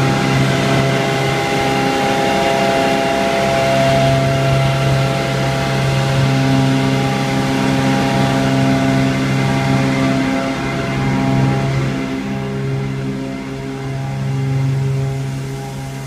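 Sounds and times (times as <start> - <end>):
machine humming drone: 0.0 - 16.0.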